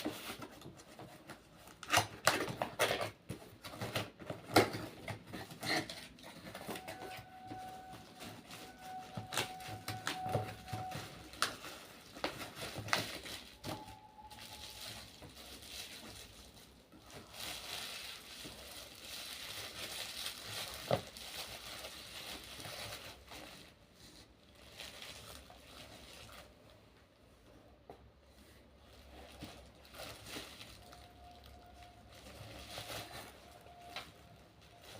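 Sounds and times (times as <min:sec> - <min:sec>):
packaging crinkling and rustling: 0:00.0 - 0:27.2, 0:28.4 - 0:34.9.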